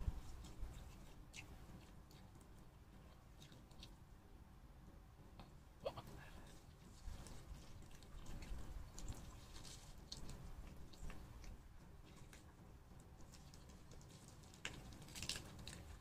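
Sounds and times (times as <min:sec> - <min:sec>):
meat being torn and chewed: 0:00.2 - 0:04.0, 0:06.4 - 0:12.6, 0:13.2 - 0:16.0.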